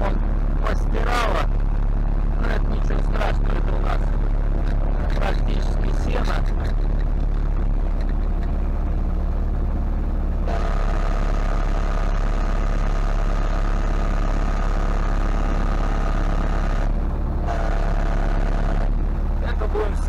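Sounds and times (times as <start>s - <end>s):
steady whine: 0.0s - 20.0s
tractor diesel engine running: 0.0s - 20.0s.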